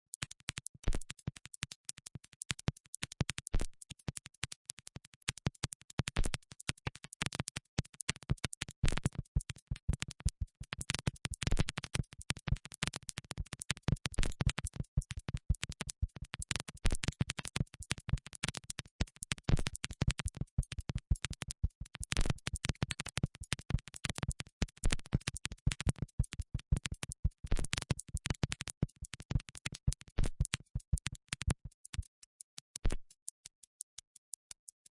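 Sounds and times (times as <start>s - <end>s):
rapid crackling clicks: 0.1s - 34.9s.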